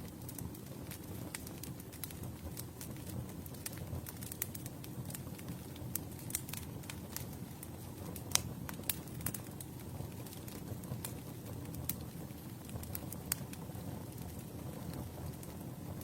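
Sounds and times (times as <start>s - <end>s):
campfire crackling and popping: 0.0s - 16.0s
low rumble of campfire: 0.0s - 16.0s.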